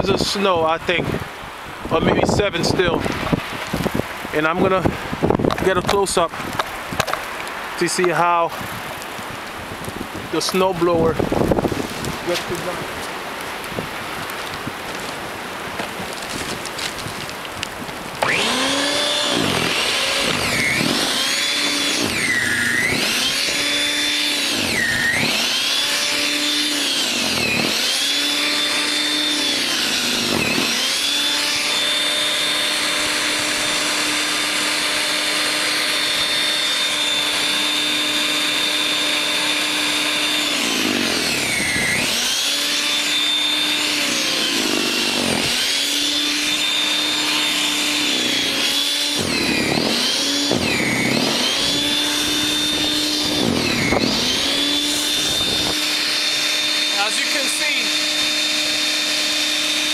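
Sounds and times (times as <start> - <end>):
electric snow thrower motor whining: 9.8 - 59.9.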